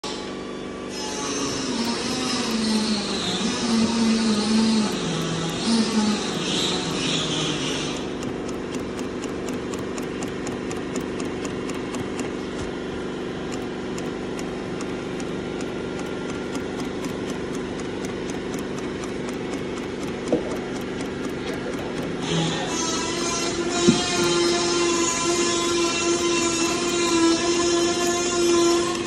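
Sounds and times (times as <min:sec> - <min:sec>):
sewing machine stitching: 0:01.4 - 0:12.7, 0:15.6 - 0:29.0.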